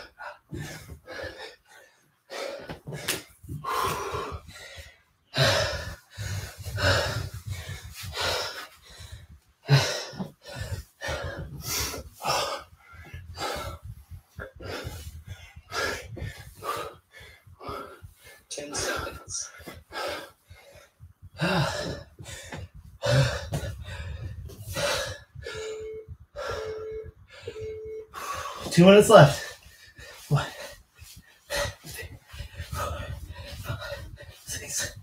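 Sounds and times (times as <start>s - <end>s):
man breathing hard and gasping: 0.0s - 35.0s.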